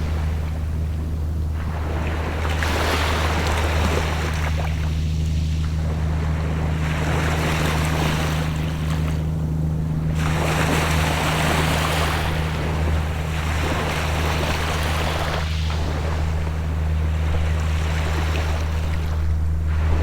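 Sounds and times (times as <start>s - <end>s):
distant boat engine drone: 0.0s - 20.0s.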